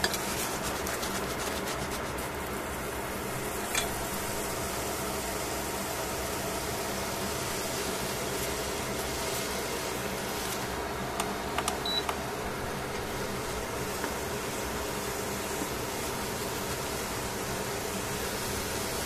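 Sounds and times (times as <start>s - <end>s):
mushrooms frying hiss: 0.0s - 11.6s, 12.2s - 19.0s.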